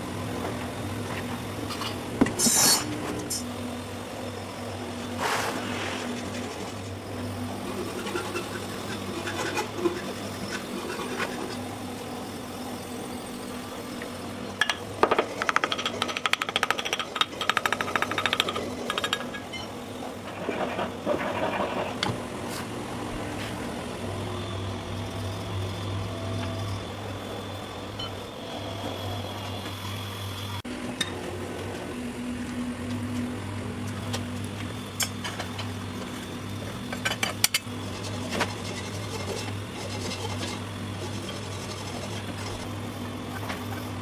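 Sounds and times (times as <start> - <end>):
low machinery hum: 0.0 - 44.0.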